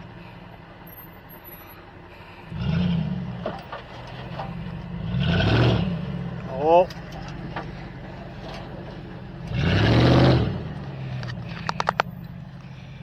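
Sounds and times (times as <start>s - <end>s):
truck engine revving: 1.8s - 13.0s.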